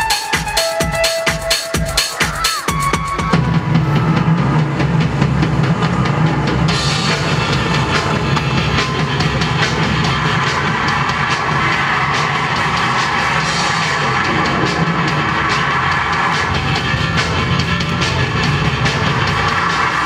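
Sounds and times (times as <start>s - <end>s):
music with driving drum beat: 0.0s - 20.0s.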